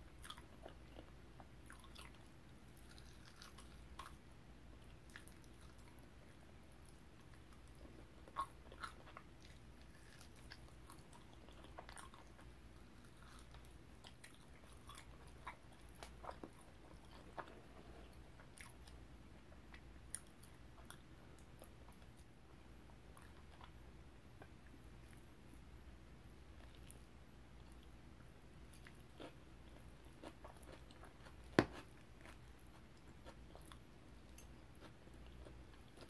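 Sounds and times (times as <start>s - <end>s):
low room hum: 0.0s - 36.0s.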